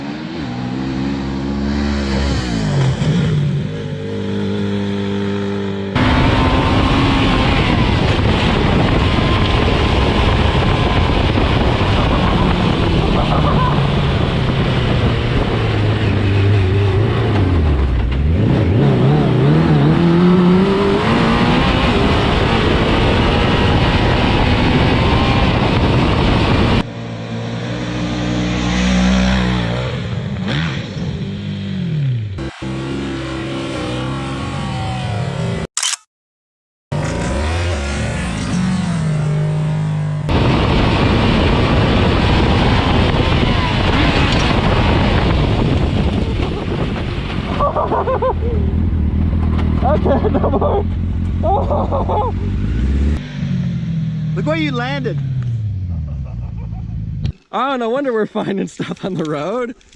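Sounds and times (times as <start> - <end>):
truck engine revving: 0.0 - 31.4, 36.9 - 57.4.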